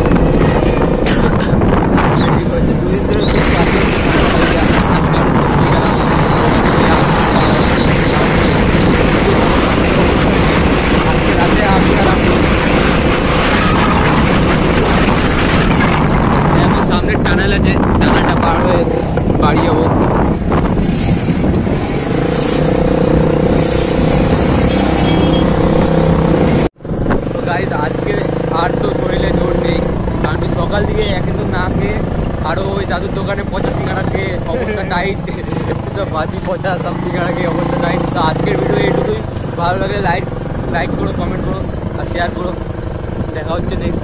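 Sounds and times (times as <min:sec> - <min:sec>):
vehicle road noise: 0:00.0 - 0:44.0
wind rush on microphone: 0:00.0 - 0:44.0.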